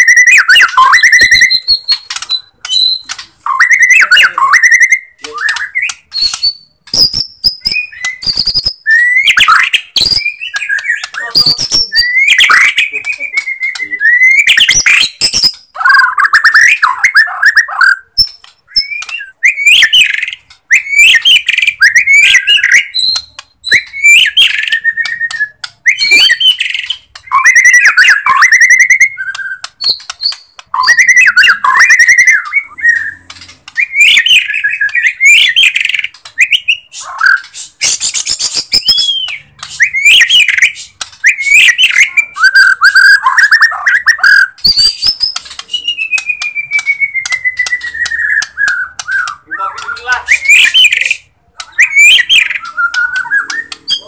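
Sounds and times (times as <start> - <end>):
songbird singing whistled phrases: 0.0 - 54.0.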